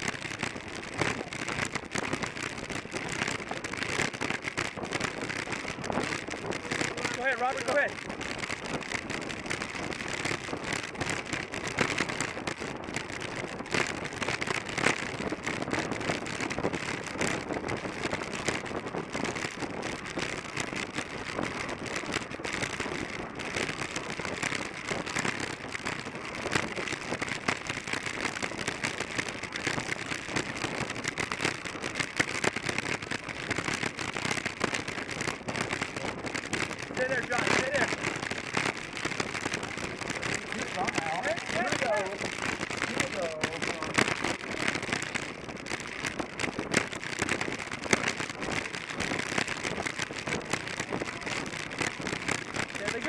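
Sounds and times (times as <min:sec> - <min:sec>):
dense crackle: 0:00.0 - 0:53.0
wind and tyres rushing: 0:00.0 - 0:53.0.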